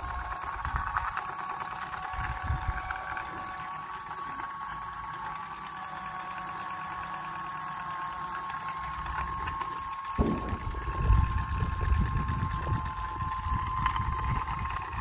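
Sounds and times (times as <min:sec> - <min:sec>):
toy sewing machine motor whine: 0:00.0 - 0:15.0.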